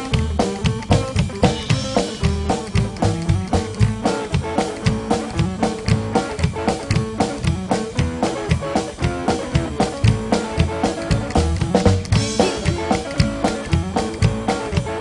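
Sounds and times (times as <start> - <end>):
live rockabilly band playing: 0.0 - 15.0.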